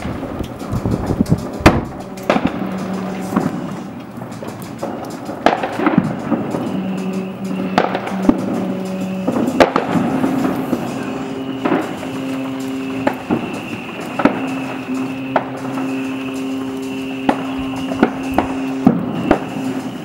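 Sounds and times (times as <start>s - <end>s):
fireworks banging: 0.0s - 20.0s
ships' hooters blasting: 1.5s - 4.3s, 5.4s - 20.0s.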